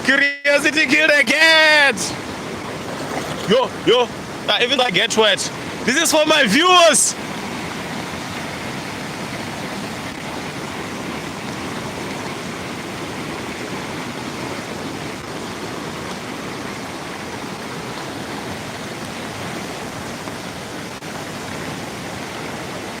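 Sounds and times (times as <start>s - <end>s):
floodwater rushing: 0.7s - 23.0s.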